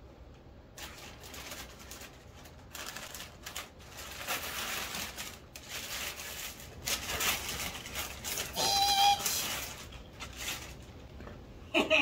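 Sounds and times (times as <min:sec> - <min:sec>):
wrapping paper rustling and tearing: 0:00.7 - 0:11.1.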